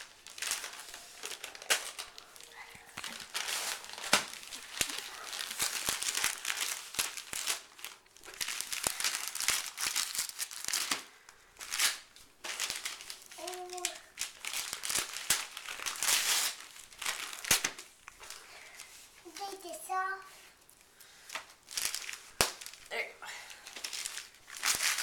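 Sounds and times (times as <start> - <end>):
wrapping paper tearing and rustling: 0.0 - 22.9, 23.5 - 25.0.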